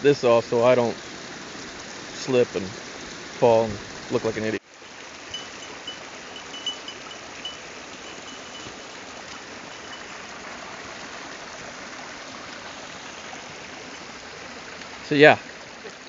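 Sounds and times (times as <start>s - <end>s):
stream splashing over rocks: 0.0s - 16.0s.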